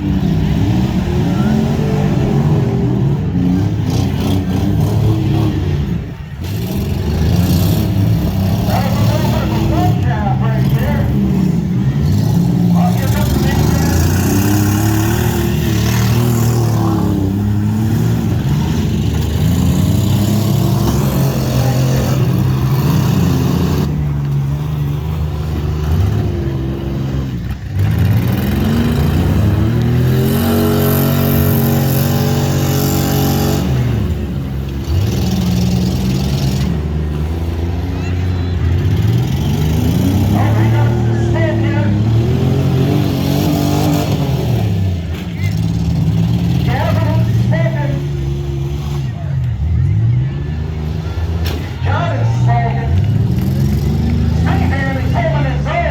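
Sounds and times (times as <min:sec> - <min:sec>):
car engines revving hard: 0:00.0 - 0:55.9.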